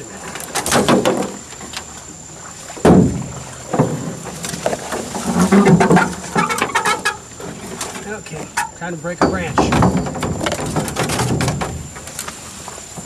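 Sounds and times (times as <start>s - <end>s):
branches scraping against canoe: 0.0s - 13.0s.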